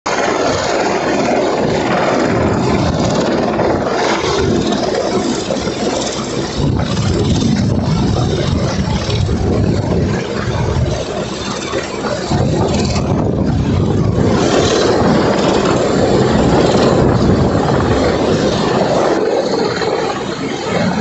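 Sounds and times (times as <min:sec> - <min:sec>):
helicopter engine and rotor noise: 0:00.1 - 0:21.0.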